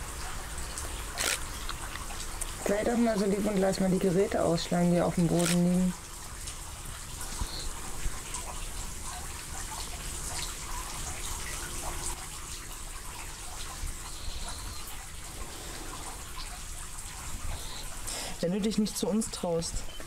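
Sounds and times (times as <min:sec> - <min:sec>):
fountain water trickling: 0:00.0 - 0:20.0
small drips and clicks: 0:00.0 - 0:20.0.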